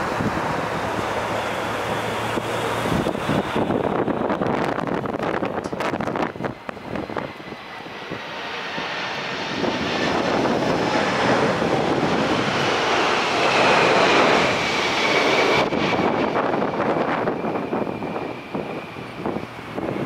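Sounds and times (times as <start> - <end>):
high engine whine: 0.0 - 20.0
jet engines passing overhead: 0.0 - 20.0.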